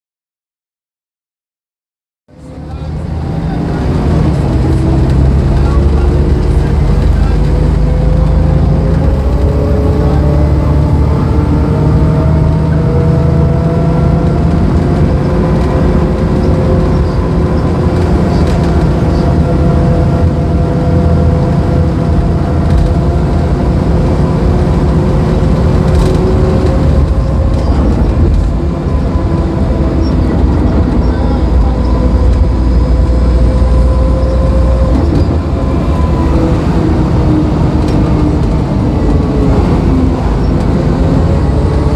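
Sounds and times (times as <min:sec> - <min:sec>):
bus diesel engine droning: 0:02.3 - 0:41.9.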